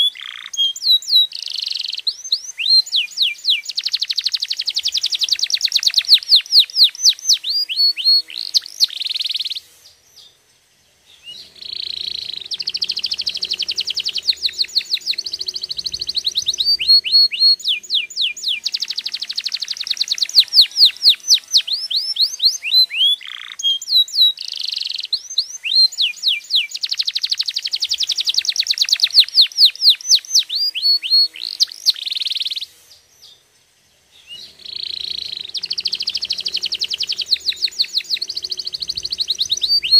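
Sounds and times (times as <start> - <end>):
canary singing: 0.0 - 10.4, 11.0 - 33.4, 34.0 - 39.9.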